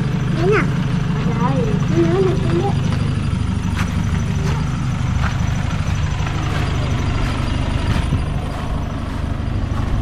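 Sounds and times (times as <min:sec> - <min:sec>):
pickup truck engine droning: 0:00.0 - 0:10.0.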